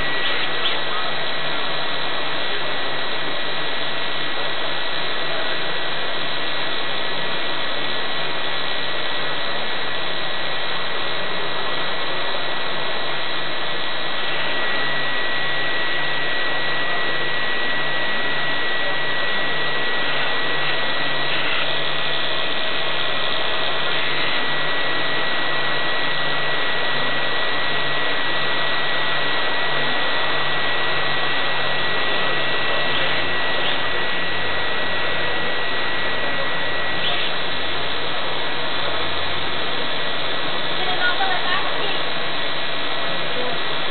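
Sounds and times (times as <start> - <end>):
propeller motors whirring: 0.0 - 43.9.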